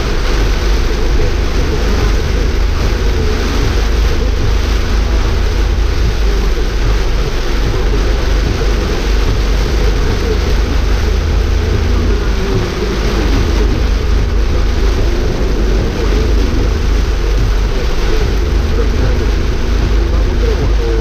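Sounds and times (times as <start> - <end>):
car engine and tyres rumbling: 0.0 - 21.0
rain and water spray hissing: 0.0 - 21.0.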